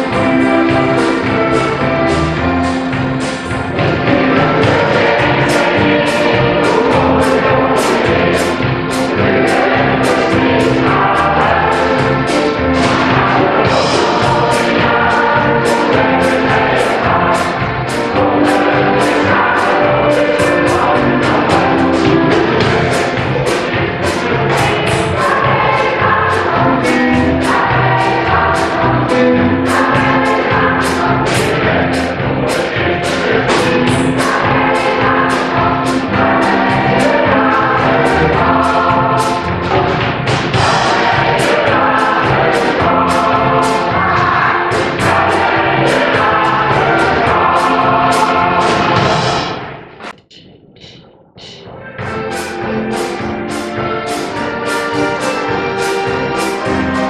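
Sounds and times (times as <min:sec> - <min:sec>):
accordions: 0:00.0 - 0:49.2
mixed choir singing: 0:00.0 - 0:50.2, 0:52.4 - 0:57.0
drum kit steady beat: 0:00.0 - 0:57.0.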